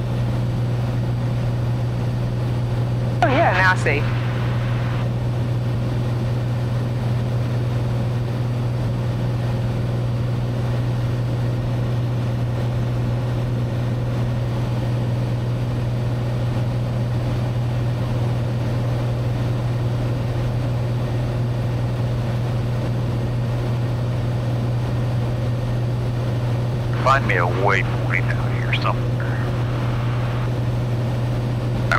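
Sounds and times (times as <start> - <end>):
light aircraft engine droning: 0.0 - 31.9.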